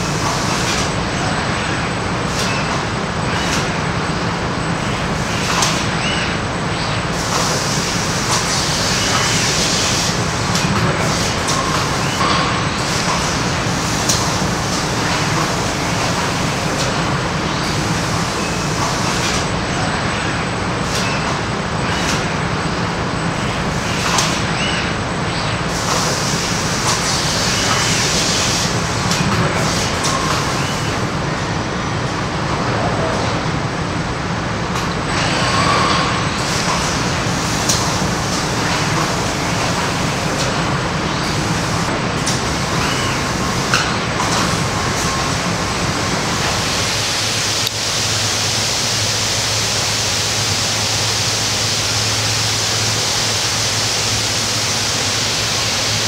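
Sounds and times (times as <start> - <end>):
steady machinery noise: 0.0 - 56.0.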